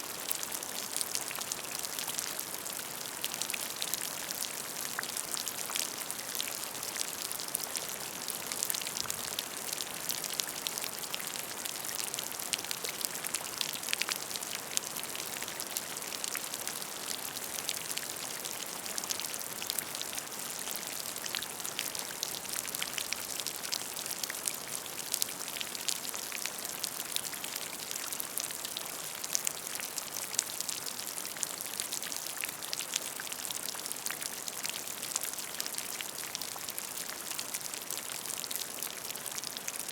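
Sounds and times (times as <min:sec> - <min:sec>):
rain falling on a puddle: 0:00.0 - 0:39.9.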